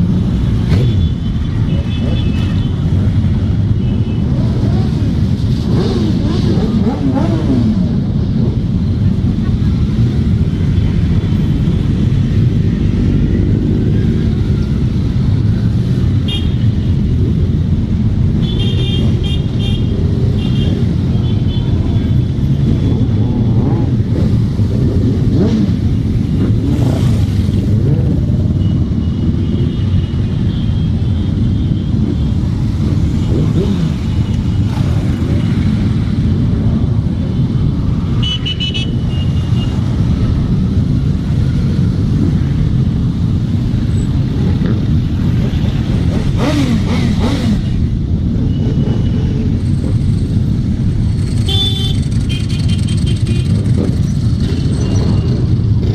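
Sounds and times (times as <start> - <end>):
motorcycle engines rumbling: 0.0 - 55.9.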